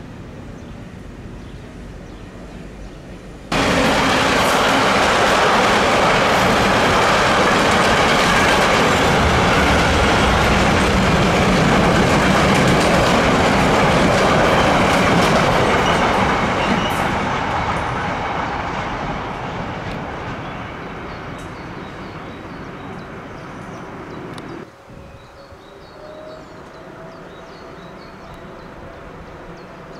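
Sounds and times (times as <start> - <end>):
freight train wheels on rails: 0.0 - 24.8.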